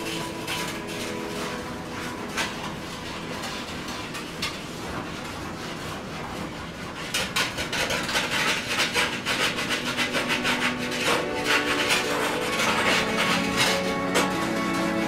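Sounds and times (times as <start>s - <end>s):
scrub pad scrubbing stovetop: 0.0s - 15.0s.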